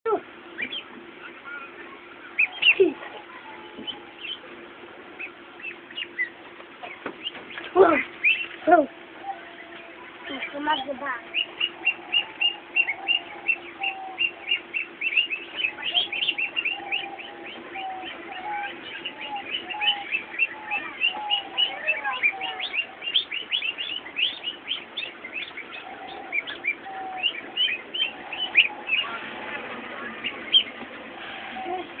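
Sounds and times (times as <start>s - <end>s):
ducklings peeping: 0.1s - 32.0s.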